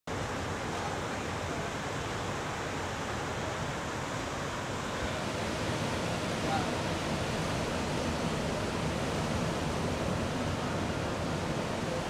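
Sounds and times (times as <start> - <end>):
ocean surf breaking: 2.1 - 12.0.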